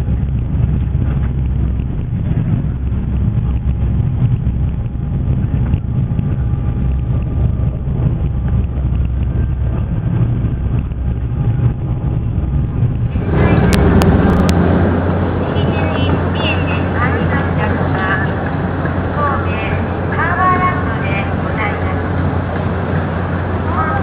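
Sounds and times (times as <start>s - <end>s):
ferry engine rumble: 0.0s - 24.0s.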